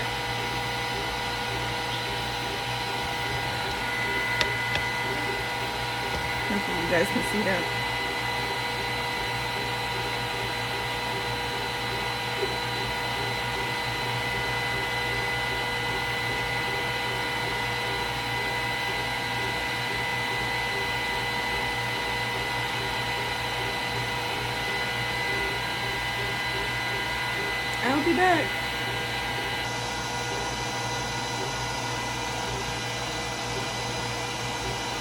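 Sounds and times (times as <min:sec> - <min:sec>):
laser cutter fans whining: 0:00.0 - 0:35.0.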